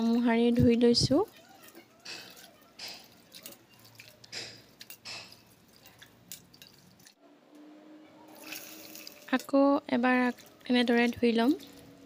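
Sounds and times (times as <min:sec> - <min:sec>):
hand washing grains in bowl: 0:00.0 - 0:07.2, 0:08.4 - 0:12.0.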